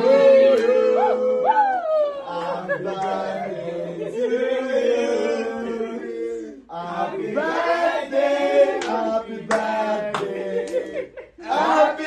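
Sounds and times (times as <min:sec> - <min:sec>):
group singing in unison: 0:00.0 - 0:12.0.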